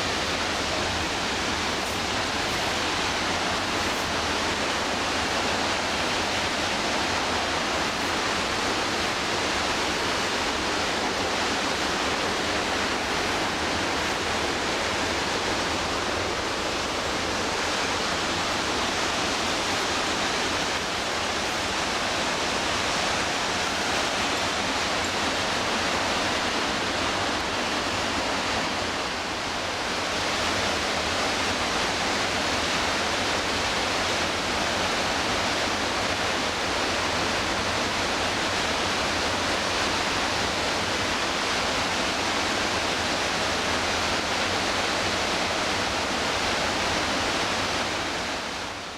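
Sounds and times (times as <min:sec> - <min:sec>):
whitewater river rushing: 0:00.0 - 0:48.9.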